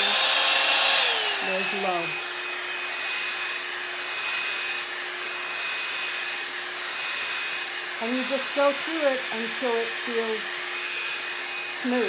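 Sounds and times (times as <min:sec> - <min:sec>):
hot air brush blowing: 0:00.0 - 0:12.0.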